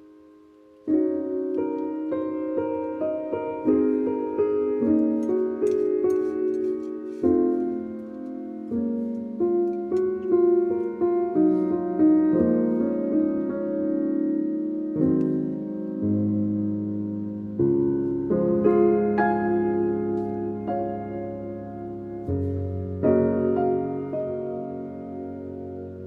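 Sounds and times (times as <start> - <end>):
slow solo piano chords: 0.0 - 26.0.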